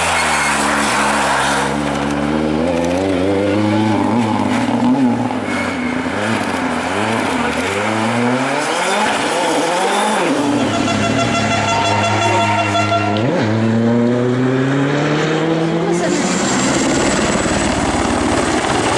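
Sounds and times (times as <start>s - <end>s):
rally car engine revving: 0.0s - 17.8s.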